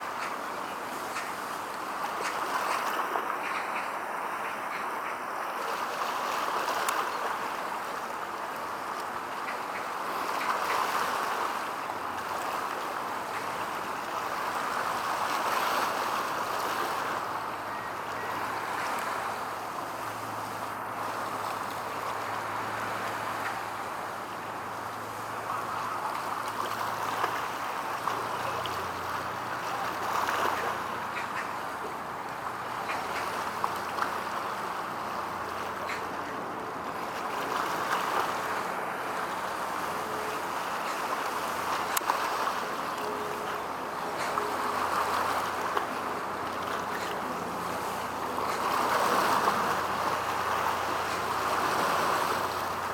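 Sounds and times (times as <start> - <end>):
water wash: 5.6 - 52.9.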